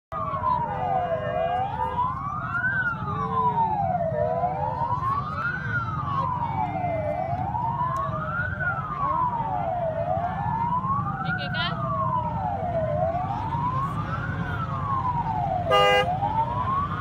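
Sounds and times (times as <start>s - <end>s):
police siren wailing: 0.1s - 17.0s.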